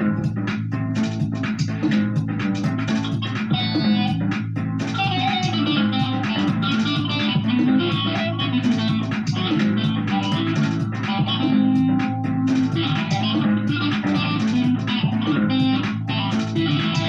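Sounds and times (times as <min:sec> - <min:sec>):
guitar plucked notes: 0:00.0 - 0:17.0.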